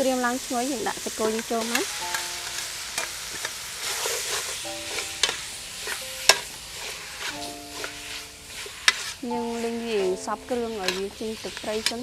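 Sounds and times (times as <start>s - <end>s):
meat sizzling in hot oil: 0.0s - 12.0s
metal ladle scraping pot: 1.3s - 12.0s.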